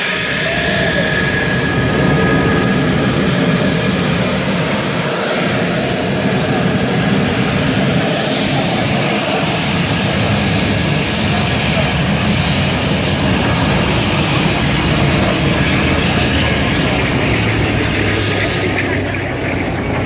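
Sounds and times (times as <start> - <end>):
jet engine whine and rush: 0.0 - 20.0.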